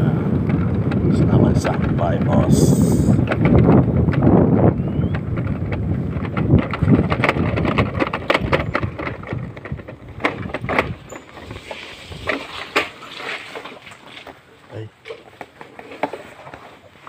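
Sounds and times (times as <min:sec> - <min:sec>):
wind rumbling on microphone: 0:00.0 - 0:17.0
handling clicks and knocks: 0:00.3 - 0:17.0.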